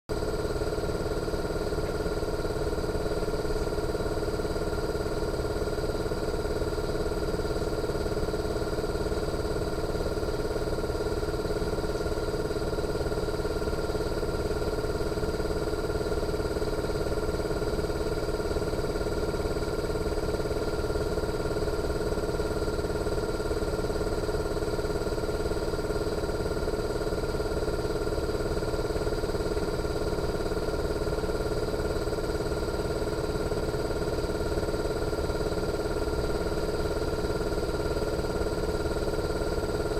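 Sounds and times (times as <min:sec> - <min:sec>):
air conditioner compressor hum: 0:00.1 - 0:39.9.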